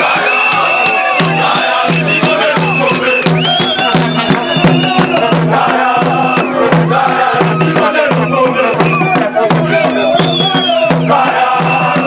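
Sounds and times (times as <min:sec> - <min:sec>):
crowd singing a chant: 0:00.0 - 0:12.0
large drum beats: 0:00.0 - 0:12.0.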